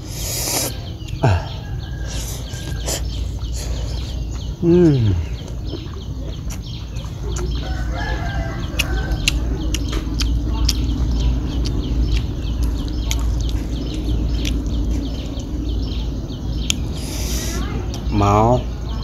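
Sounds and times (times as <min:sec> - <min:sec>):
crunchy chewing: 0:00.0 - 0:18.2
birds chirping: 0:00.0 - 0:19.0
low rumble: 0:00.8 - 0:19.0.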